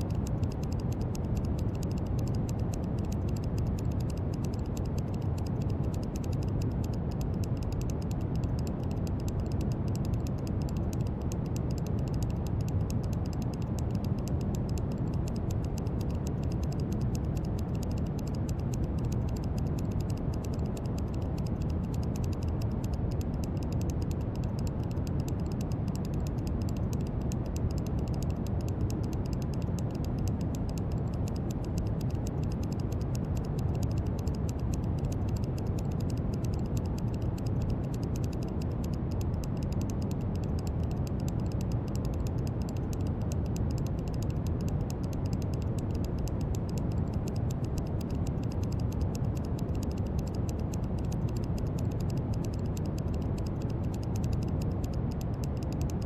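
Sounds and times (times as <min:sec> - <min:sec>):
deep rumbling brown noise: 0:00.0 - 0:56.0.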